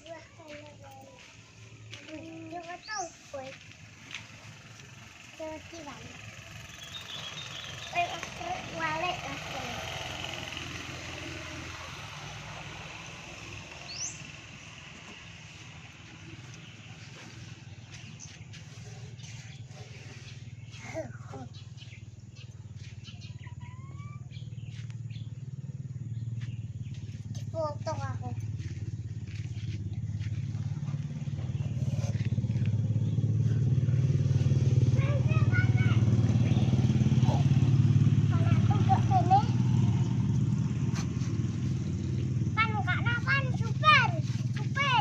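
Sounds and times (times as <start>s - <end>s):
engine running: 0.0s - 45.0s.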